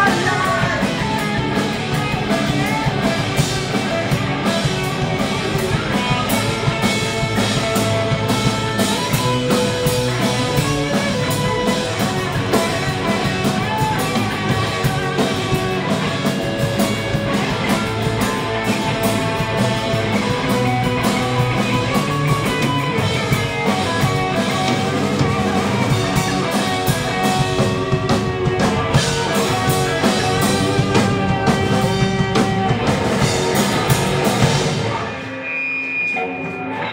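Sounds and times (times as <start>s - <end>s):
electric bass: 0.0s - 35.6s
drum kit with cymbal hits: 0.0s - 36.9s
electric guitars: 0.0s - 36.9s.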